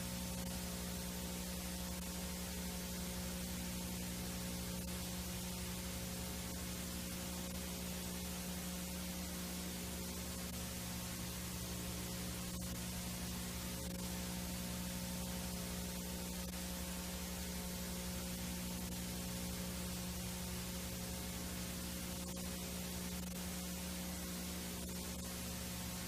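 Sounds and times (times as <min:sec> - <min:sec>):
low electrical hum: 0:00.0 - 0:26.0
tape static hiss: 0:00.0 - 0:26.0.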